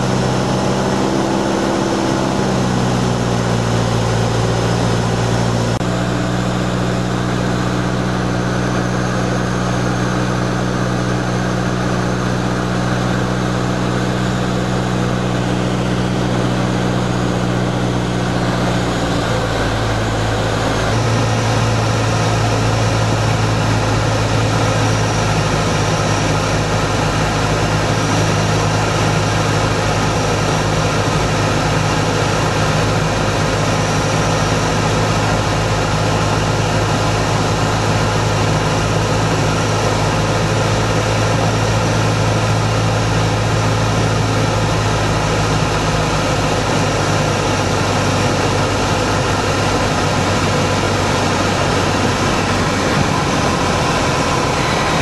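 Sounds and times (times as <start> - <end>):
light aircraft engine and propeller drone: 0.0 - 55.0
low hum: 0.0 - 55.0.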